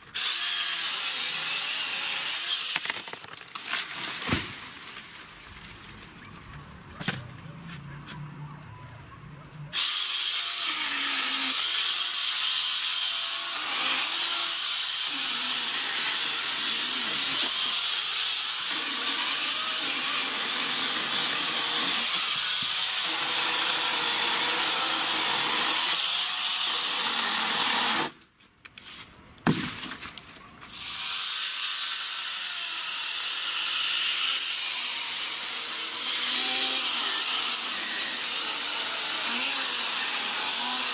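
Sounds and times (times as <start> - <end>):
chainsaw cutting through log: 0.1 - 4.4, 9.8 - 28.2, 30.7 - 40.9.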